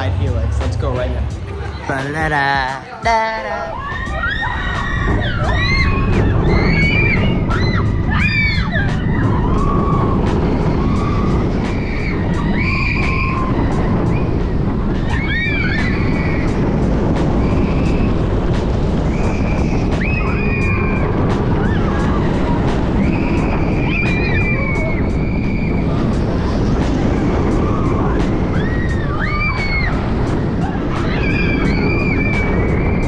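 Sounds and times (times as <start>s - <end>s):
roller coaster rumbling on track: 0.0s - 33.0s
wind rushing over microphone: 0.0s - 33.0s
riders screaming and whooping: 3.4s - 18.4s, 19.0s - 33.0s.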